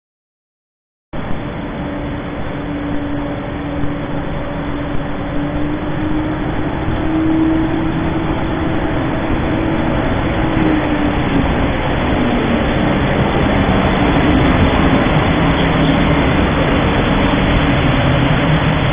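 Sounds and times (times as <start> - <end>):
electric locomotive humming: 1.2 - 18.9.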